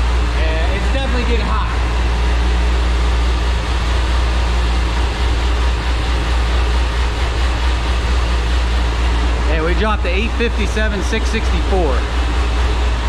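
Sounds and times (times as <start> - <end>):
deep hum: 0.0 - 13.0
loud mechanical drone: 0.0 - 13.0.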